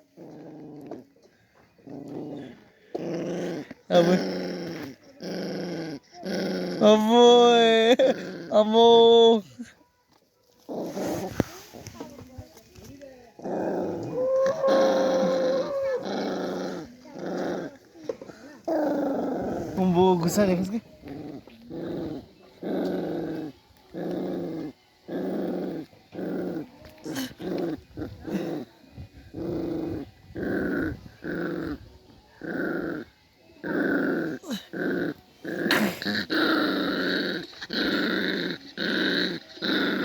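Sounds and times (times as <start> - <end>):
puppy growling: 0.0 - 9.4, 10.6 - 40.0.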